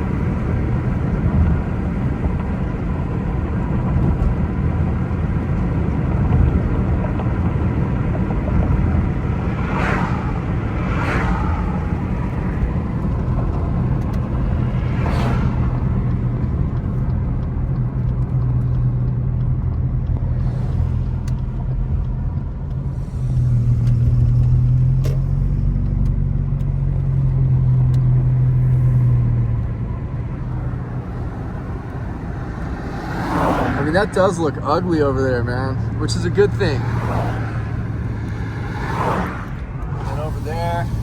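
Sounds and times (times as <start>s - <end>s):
car engine drone: 0.0s - 41.0s
road noise inside car: 0.0s - 41.0s.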